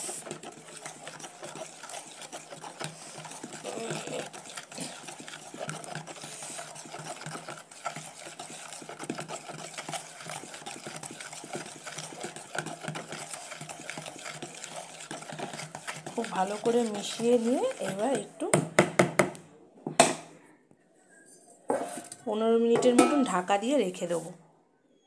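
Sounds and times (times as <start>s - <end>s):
spoon scraping plastic bowl: 0.0s - 19.2s, 21.2s - 22.2s.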